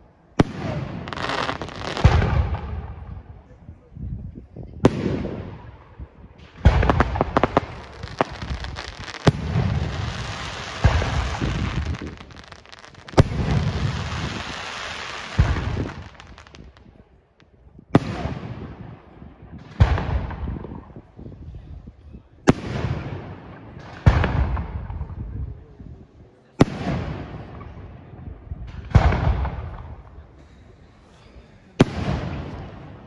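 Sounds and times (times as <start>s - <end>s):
firework bangs with rolling rumble: 0.4s - 3.4s, 4.8s - 17.0s, 17.8s - 21.2s, 22.4s - 25.7s, 26.6s - 30.4s, 31.8s - 33.0s.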